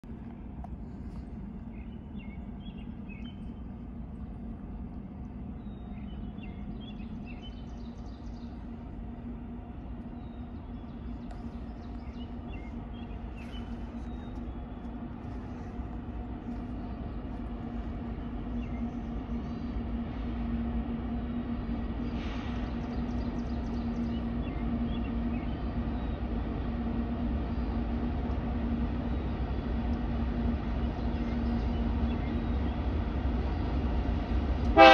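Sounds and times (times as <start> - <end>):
diesel locomotive engine drone: 0.0 - 34.9
birds chirping: 0.8 - 20.6, 21.2 - 34.9.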